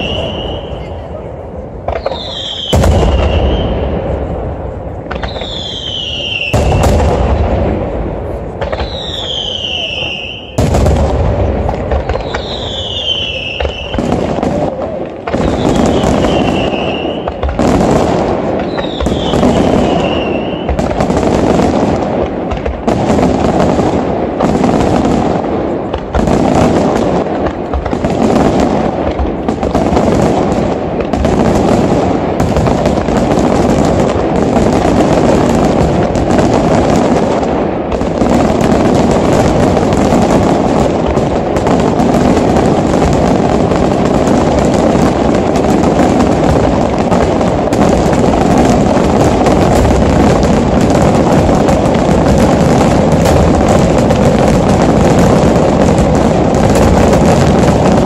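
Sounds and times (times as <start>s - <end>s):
fireworks bursts and crackle: 0.0s - 58.0s.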